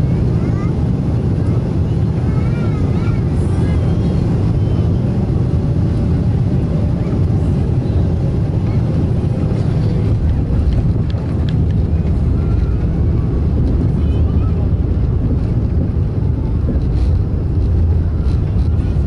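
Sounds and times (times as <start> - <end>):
airflow: 0.0 - 19.0
jet engines rumbling: 0.0 - 19.0.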